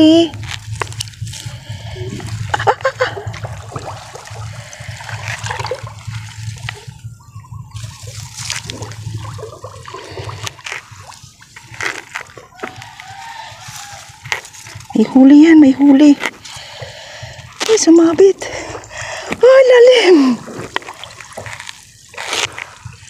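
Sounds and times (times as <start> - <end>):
steady low rumble: 0.0 - 23.0
water splashing around wading person: 0.0 - 23.0.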